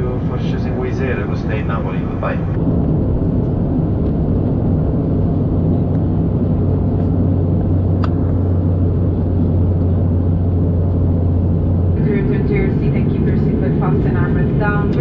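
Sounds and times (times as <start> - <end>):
rush of airflow: 0.0 - 14.8
airliner cabin drone: 0.0 - 15.0.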